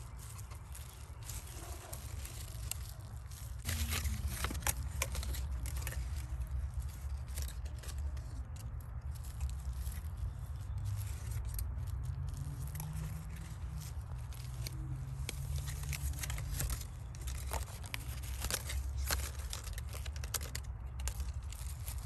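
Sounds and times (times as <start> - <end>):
scraping and crackling clicks: 0.0 - 22.0.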